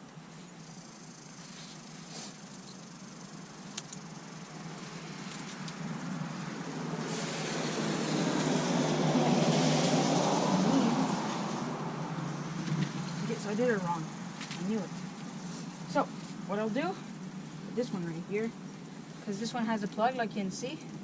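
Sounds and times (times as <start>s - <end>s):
road vehicle approaching: 0.0s - 21.0s.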